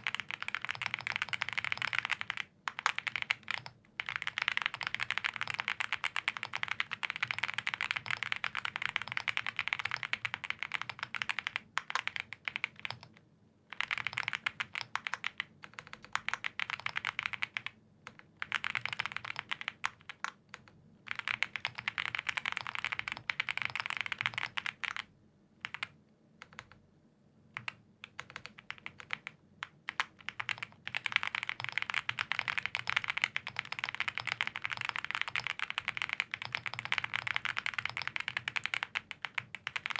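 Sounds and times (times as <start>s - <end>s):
fast typing on mechanical keyboard: 0.0s - 26.8s, 27.6s - 39.9s.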